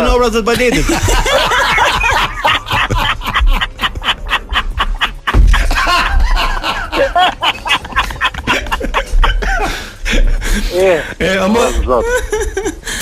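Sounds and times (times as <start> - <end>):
music playing: 0.0 - 12.8
people laughing hard: 0.5 - 13.0.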